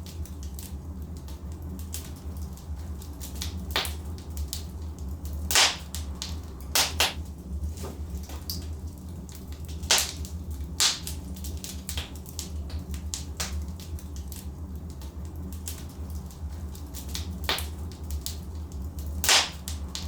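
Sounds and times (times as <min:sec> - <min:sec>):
logs burning with crackles: 0:00.0 - 0:20.0.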